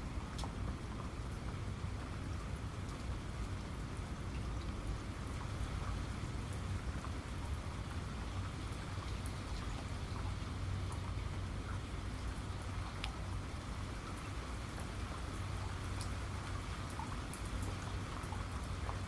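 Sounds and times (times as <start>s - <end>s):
steady rain falling: 0.0s - 19.0s
raindrops ticking: 0.1s - 19.0s.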